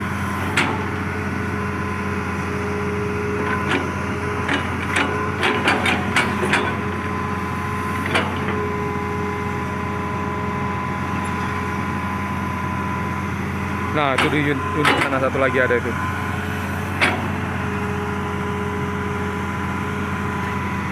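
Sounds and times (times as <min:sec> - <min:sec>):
diesel engine running: 0:00.0 - 0:20.9
hydraulic whine: 0:00.0 - 0:20.9.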